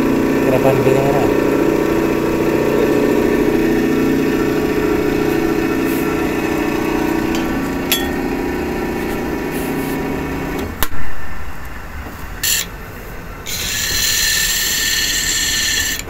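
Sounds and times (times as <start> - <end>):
electric fan motor humming: 0.0 - 16.0.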